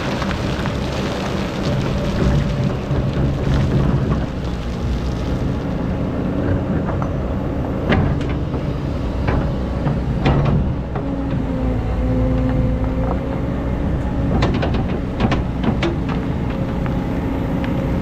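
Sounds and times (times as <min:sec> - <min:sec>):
excavator diesel engine drone: 0:00.0 - 0:18.0.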